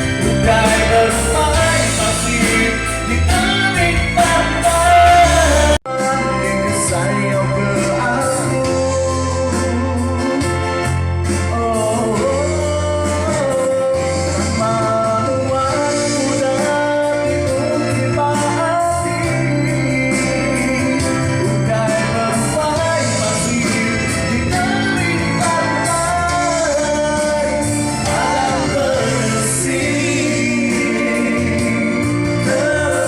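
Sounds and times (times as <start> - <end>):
bass notes: 0.0 - 33.0
electronic keyboard: 0.0 - 33.0
live band music: 0.0 - 33.0.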